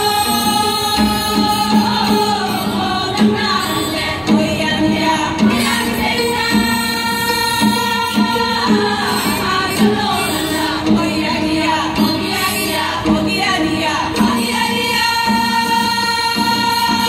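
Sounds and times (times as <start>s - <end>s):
group singing in unison: 0.0s - 17.0s.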